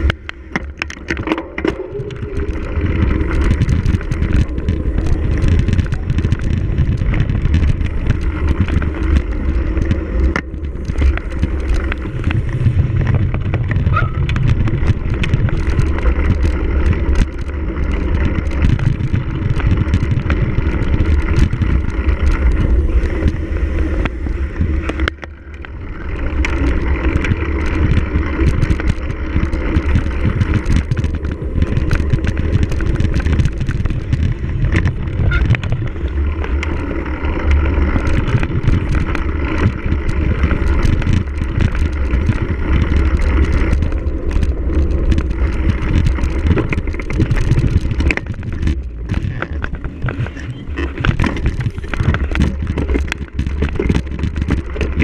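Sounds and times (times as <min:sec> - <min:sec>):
bike rattles and clicks: 0:00.0 - 0:55.0
wind buffeting microphone: 0:00.0 - 0:55.0.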